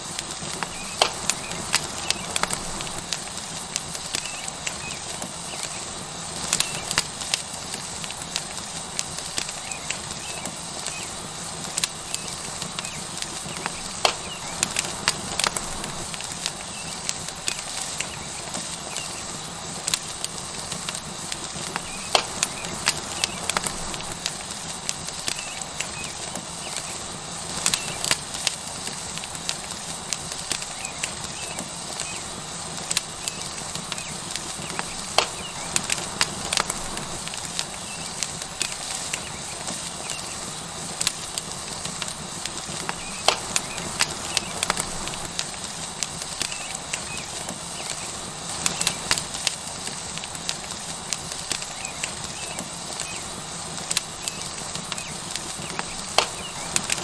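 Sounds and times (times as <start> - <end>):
steak sizzling on hot rock: 0.0 - 57.0
wood fire crackling and popping: 0.0 - 57.0.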